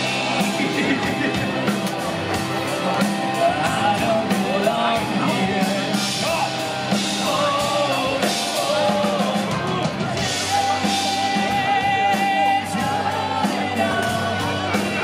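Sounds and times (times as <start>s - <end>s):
person singing: 0.0s - 2.0s, 2.7s - 15.0s
bass guitar: 0.0s - 15.0s
drum kit with cymbals: 0.0s - 15.0s
electric guitar: 0.0s - 15.0s.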